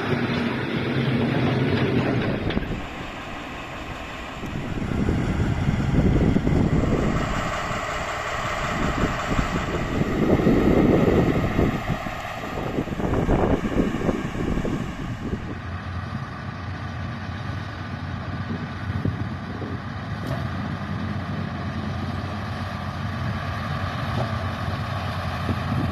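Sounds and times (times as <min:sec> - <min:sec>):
diesel locomotive running: 0:00.0 - 0:25.9
wheels on rails: 0:00.0 - 0:25.9.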